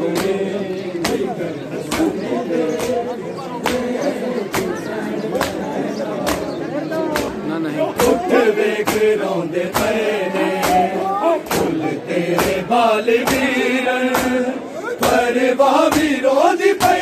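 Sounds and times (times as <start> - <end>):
men chanting together: 0.0 - 17.0.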